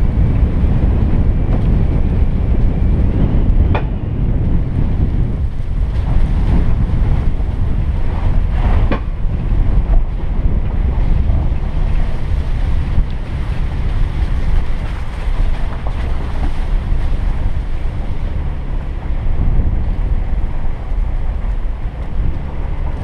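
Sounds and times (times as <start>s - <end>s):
vehicle engine and tyres rumbling: 0.0s - 23.0s
wind buffeting microphone: 0.0s - 23.0s.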